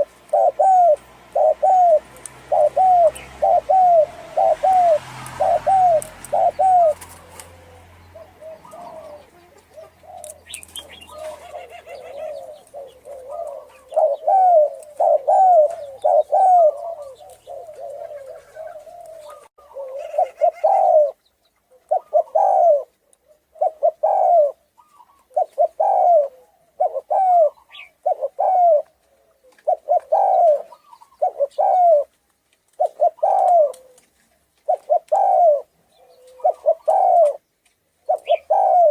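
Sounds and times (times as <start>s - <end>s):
dove cooing: 0.0s - 32.1s, 32.8s - 38.9s.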